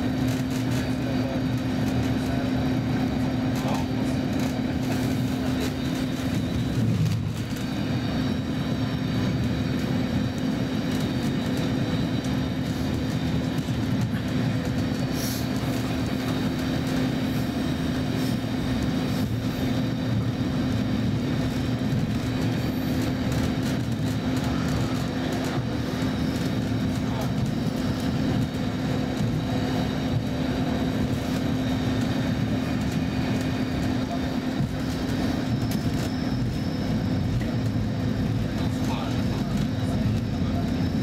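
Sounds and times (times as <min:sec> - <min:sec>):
constant low hum: 0:00.0 - 0:41.0
train wheels rumbling: 0:00.0 - 0:41.0.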